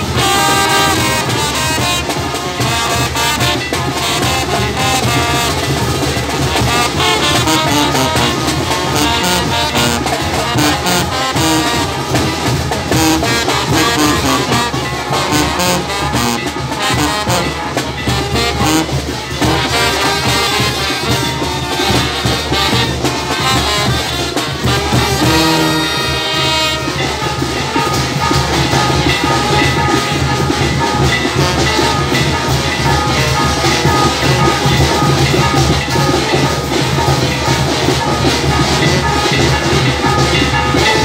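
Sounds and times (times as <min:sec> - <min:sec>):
brass band playing: 0:00.0 - 0:41.0.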